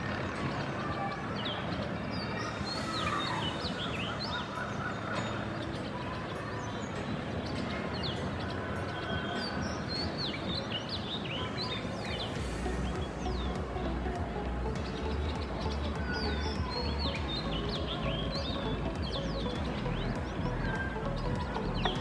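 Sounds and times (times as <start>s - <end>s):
small birds chirping: 0.0s - 22.0s
steady background noise: 0.0s - 22.0s.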